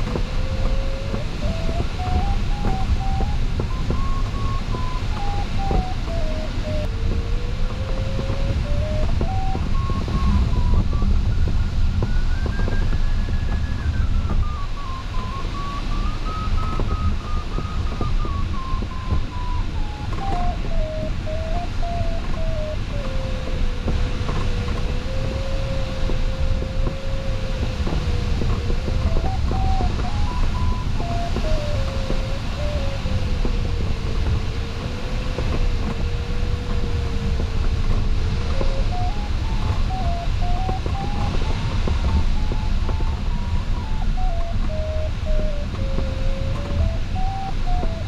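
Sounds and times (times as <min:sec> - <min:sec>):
cockpit airflow noise: 0:00.0 - 0:48.0
variometer electronic tone: 0:00.0 - 0:48.0.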